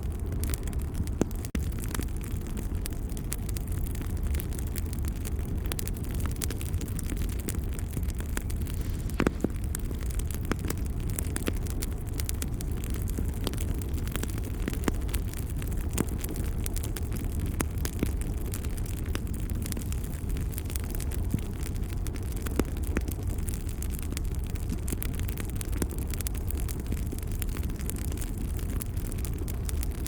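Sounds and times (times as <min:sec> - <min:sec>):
low rumble of fire: 0:00.0 - 0:30.0
wood fire crackling: 0:00.0 - 0:30.0.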